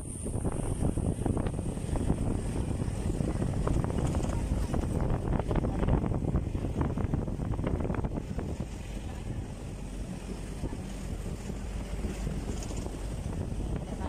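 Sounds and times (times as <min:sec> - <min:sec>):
low rumble of moving ride: 0:00.0 - 0:14.0
wind buffeting microphone: 0:00.0 - 0:14.0.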